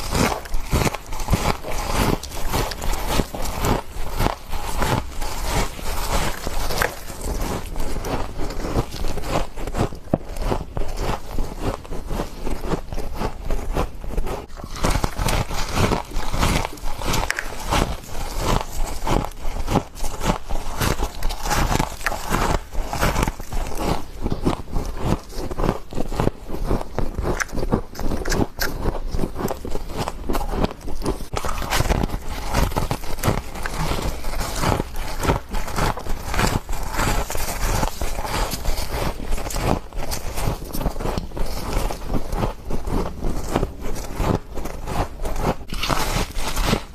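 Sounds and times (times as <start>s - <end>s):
person chewing crunchy frost: 0.0s - 46.9s.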